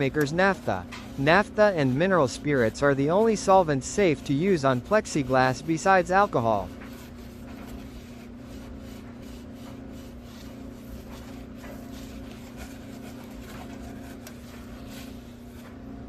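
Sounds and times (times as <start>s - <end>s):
rubbing on plastic sheet: 0.0s - 15.8s
steady low hum: 0.0s - 16.0s.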